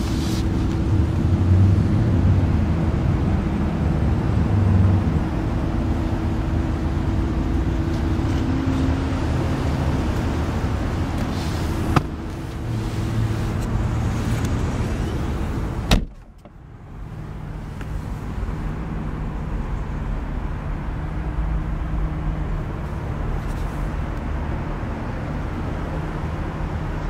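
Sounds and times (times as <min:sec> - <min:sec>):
vehicle rumble: 0:00.0 - 0:27.0.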